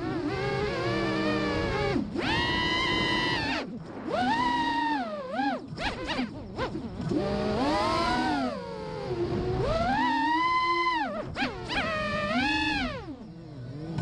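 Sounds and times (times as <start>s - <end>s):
drone motors buzzing whine: 0.0s - 14.0s.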